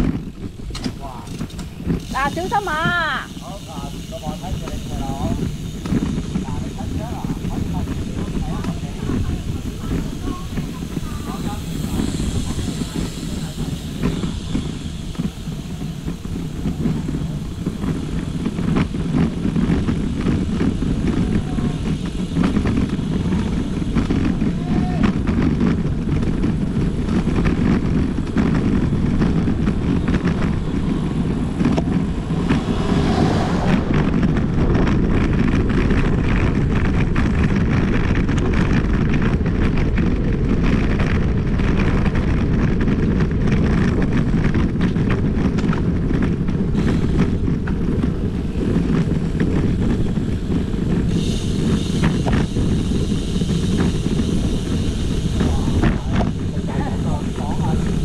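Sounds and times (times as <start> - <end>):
bike knocks and rattles: 0.0 - 32.8, 34.0 - 58.0
wind buffeting microphone: 0.0 - 58.0.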